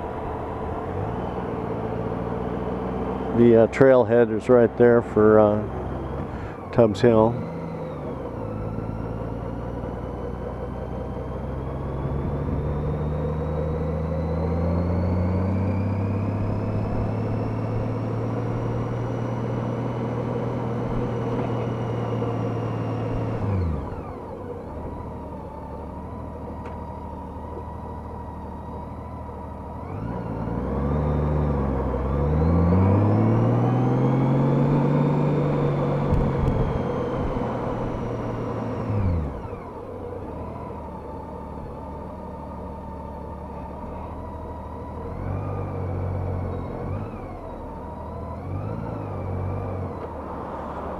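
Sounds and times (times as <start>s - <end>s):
motorcycle engine: 0.0s - 50.9s
road and wind noise: 0.0s - 50.9s.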